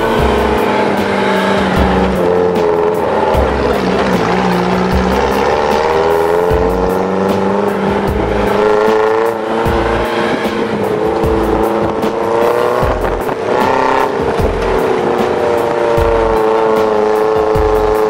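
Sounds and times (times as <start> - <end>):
background music with steady beat: 0.0 - 18.0
jeep engine running: 0.0 - 18.0.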